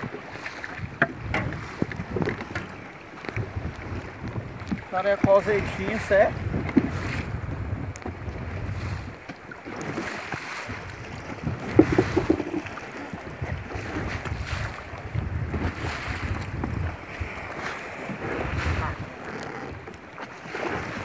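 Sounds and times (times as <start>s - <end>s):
choppy sea washing: 0.0s - 21.0s
wind buffeting microphone: 0.0s - 21.0s.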